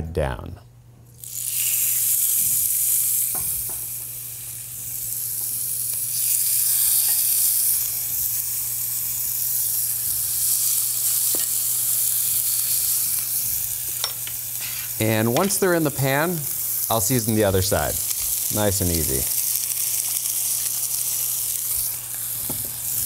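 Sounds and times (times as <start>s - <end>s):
chicken sizzling in a skillet: 1.2s - 23.0s.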